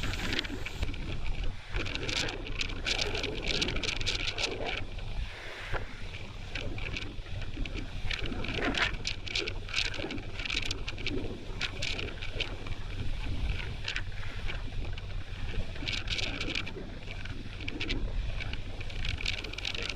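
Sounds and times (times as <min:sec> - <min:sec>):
wind gusting on microphone: 0:00.0 - 0:19.9.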